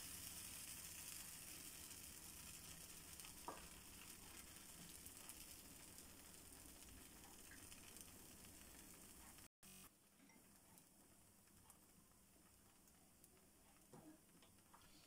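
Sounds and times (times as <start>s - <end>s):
faint sizzle in a frying pan: 0.0s - 15.0s.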